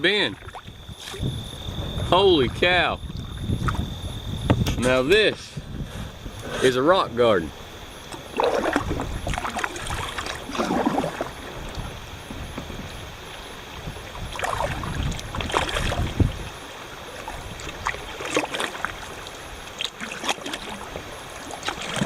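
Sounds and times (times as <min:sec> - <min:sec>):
water rushing over rocks: 0:00.0 - 0:04.0, 0:06.7 - 0:22.0
paddle splashing in water: 0:00.0 - 0:04.9, 0:08.0 - 0:22.0.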